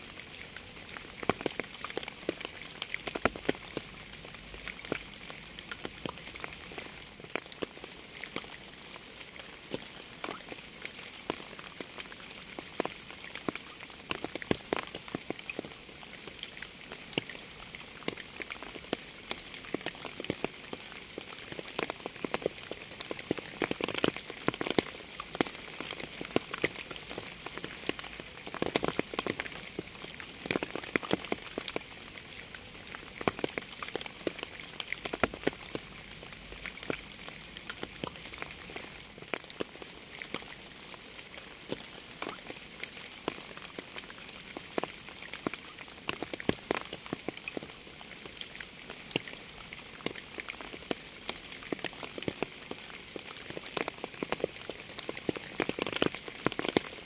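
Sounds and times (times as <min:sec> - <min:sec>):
raindrops striking a surface: 0:00.0 - 0:57.0
steady rain hiss: 0:00.0 - 0:57.0.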